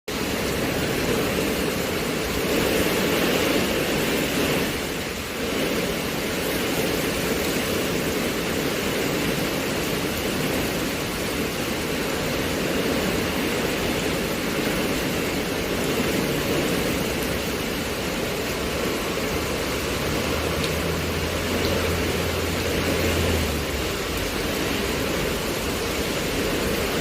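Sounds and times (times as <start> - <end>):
wind-driven rain hissing: 0.1 - 27.0.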